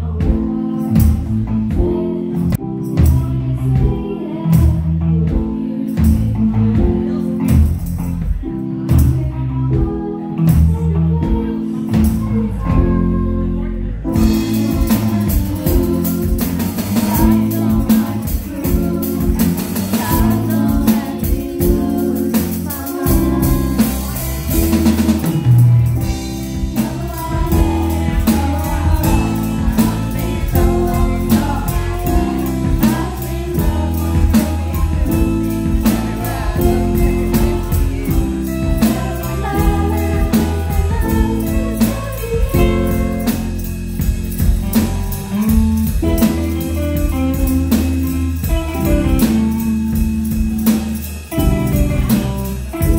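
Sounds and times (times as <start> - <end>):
drum kit steady beat: 0.0 - 13.4, 14.1 - 52.9
electric guitars: 0.0 - 52.9
person singing: 0.0 - 52.9.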